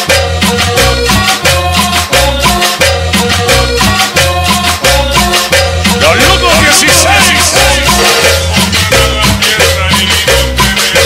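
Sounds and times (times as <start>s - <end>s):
cumbia music: 0.0s - 11.0s.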